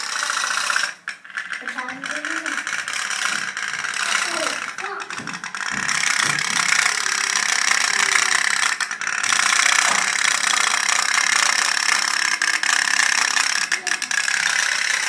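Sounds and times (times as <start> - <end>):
toy steam boat putt-putt: 0.0 - 15.0.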